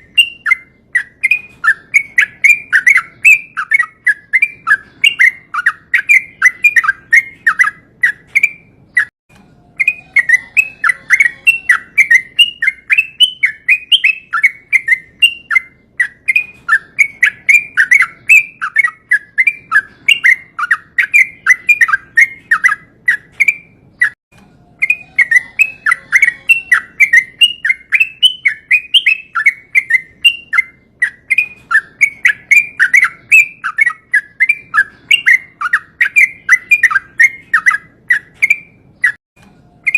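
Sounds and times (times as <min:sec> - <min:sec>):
bulbul singing bubbly song: 0:00.0 - 0:39.9.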